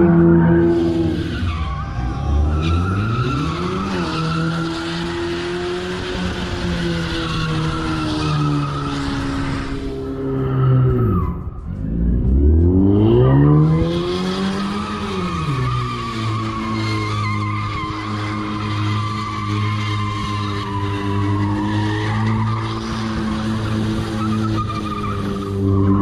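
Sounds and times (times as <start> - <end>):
tyres spinning and squealing: 0.0 - 12.0, 13.0 - 26.0
car engine revving: 0.0 - 26.0.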